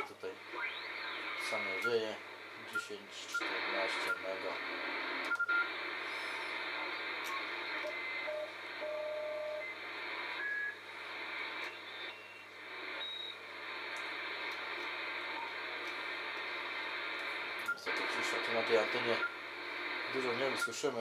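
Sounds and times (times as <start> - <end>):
radio tuning whistles: 0.0 - 20.9
radio band noise hiss: 0.0 - 21.0.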